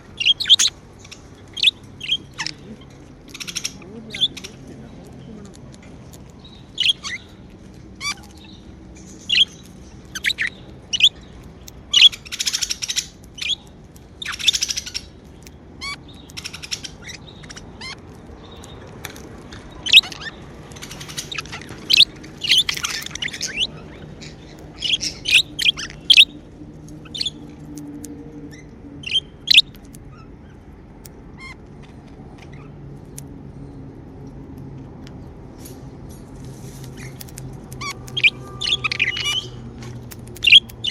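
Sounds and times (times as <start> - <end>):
budgerigars chirping: 0.0 - 5.4, 6.0 - 27.5, 28.5 - 30.6, 36.9 - 40.9.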